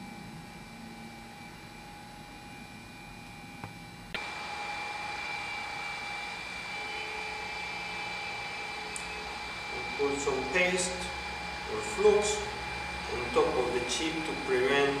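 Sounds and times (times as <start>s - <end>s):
high whine: 0.0s - 15.0s
machine hum and whir: 0.0s - 15.0s.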